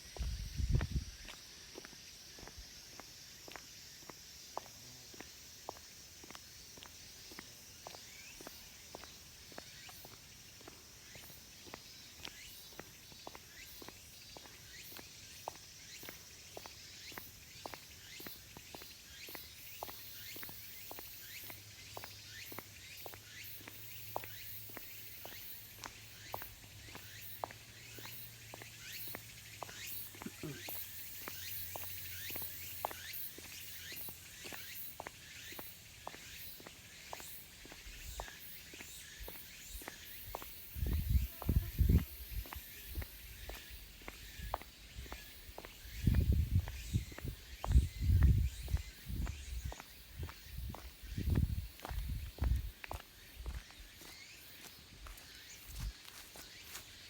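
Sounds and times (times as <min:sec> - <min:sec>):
cicadas chorus: 0:00.0 - 0:57.0
walking footsteps: 0:00.1 - 0:57.0.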